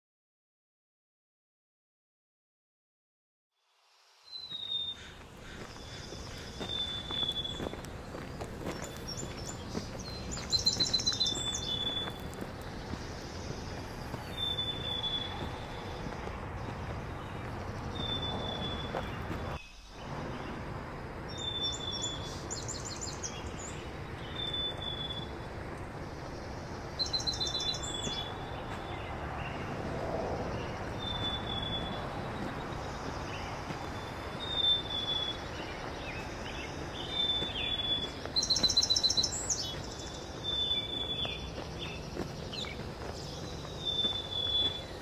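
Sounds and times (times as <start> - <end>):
birds trilling: 4.4 - 45.0.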